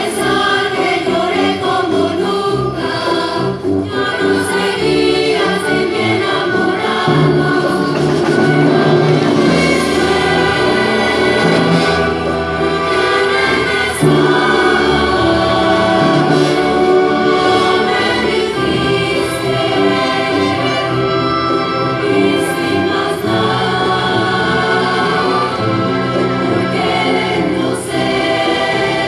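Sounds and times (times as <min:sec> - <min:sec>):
choir singing: 0:00.0 - 0:29.0
symphony orchestra: 0:00.0 - 0:29.0.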